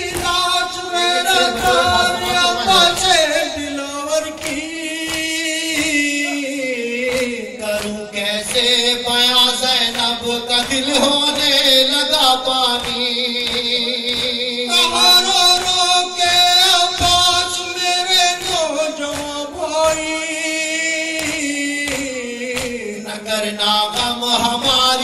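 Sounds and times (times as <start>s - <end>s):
men chanting over microphone: 0.0s - 4.8s, 5.6s - 25.0s
sharp rhythmic beats: 0.0s - 25.0s.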